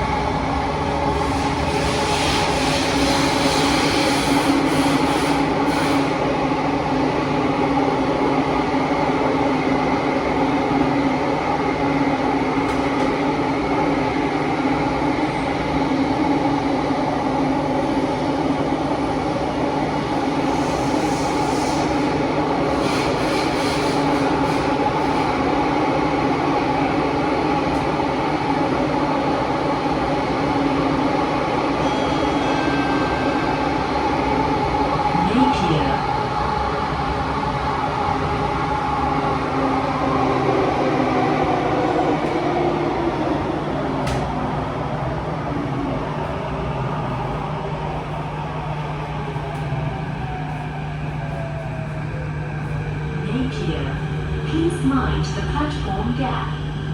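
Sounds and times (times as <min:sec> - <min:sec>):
metro train wheels rumbling: 0:00.0 - 0:56.9.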